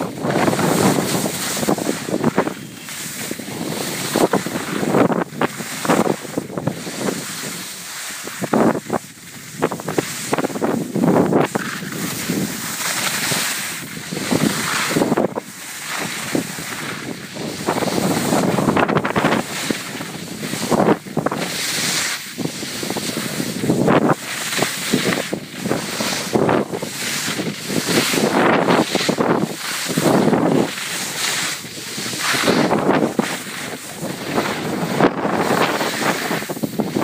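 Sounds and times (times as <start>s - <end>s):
skis scraping over snow: 0.0s - 37.0s
wind rushing over microphone: 0.0s - 37.0s.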